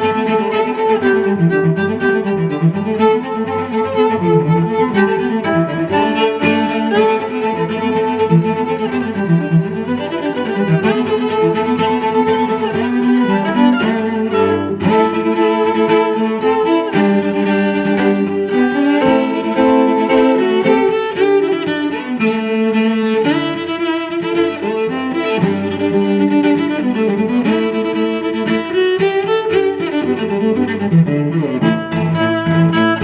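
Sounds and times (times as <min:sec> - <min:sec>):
bowed strings playing a melody: 0:00.0 - 0:33.0.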